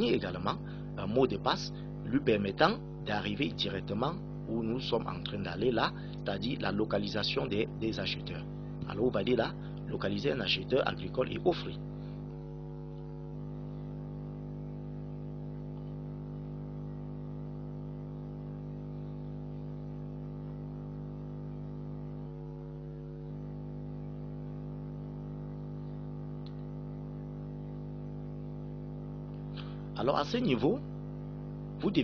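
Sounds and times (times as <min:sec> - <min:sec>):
low-pitched background hum: 0:00.0 - 0:32.0.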